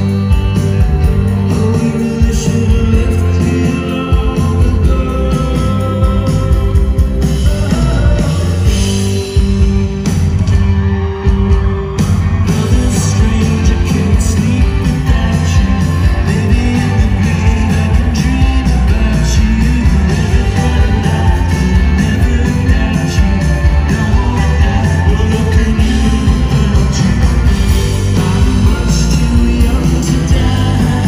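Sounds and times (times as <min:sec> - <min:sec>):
live folk-rock band: 0:00.0 - 0:31.0
person singing: 0:01.0 - 0:09.4, 0:11.1 - 0:31.0.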